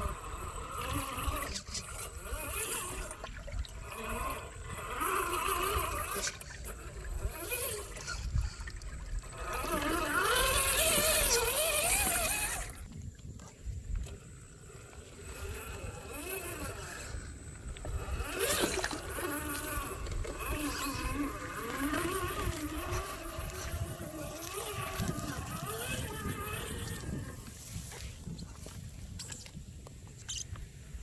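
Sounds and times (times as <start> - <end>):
rc car motor whining: 0.0 - 13.1, 14.1 - 28.4.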